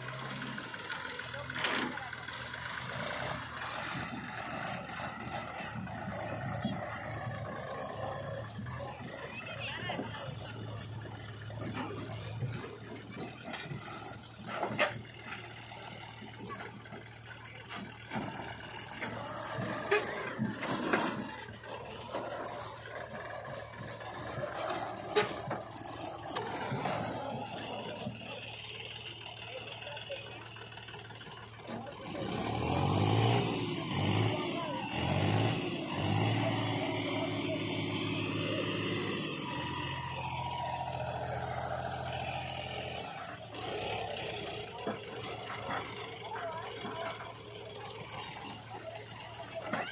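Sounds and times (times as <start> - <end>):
tractor diesel engine running: 0.0 - 49.9
trailer knocks and rattles: 0.1 - 49.9.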